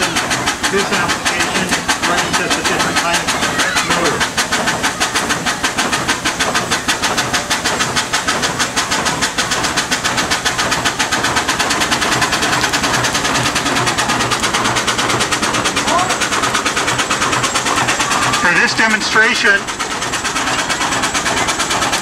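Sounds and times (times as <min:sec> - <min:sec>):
steam engine chuffing: 0:00.0 - 0:22.0.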